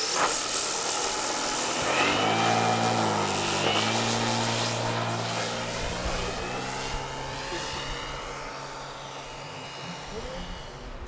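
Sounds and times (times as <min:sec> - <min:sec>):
model plane motor drone: 0:00.0 - 0:11.0.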